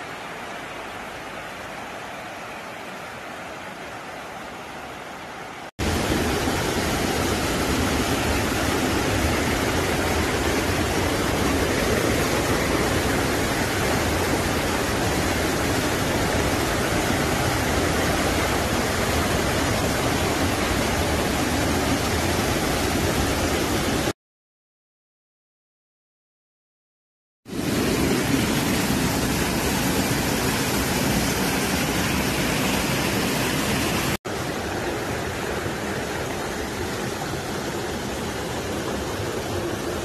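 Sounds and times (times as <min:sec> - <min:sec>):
waterfall roaring: 0:00.0 - 0:24.1, 0:27.5 - 0:40.0.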